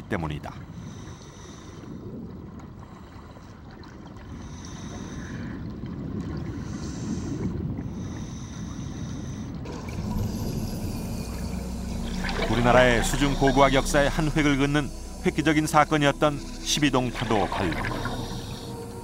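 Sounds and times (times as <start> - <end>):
low steady hum: 0.0 - 19.0
muffled underwater wash: 0.0 - 19.0.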